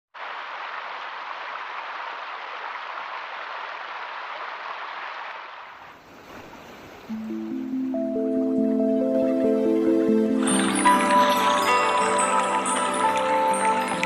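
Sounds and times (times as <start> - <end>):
rushing water: 0.2 - 14.0.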